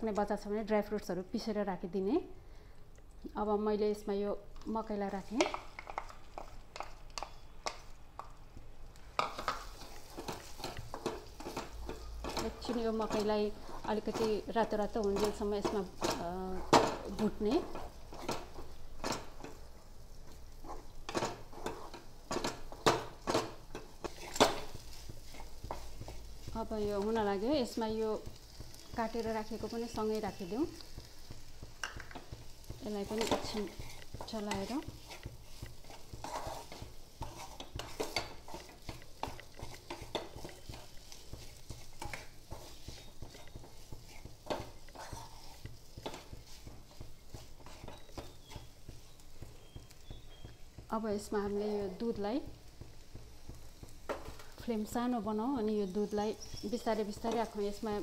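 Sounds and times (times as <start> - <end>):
corn frying: 0.0 - 58.0
spatula scraping and knocking pan: 9.2 - 58.0.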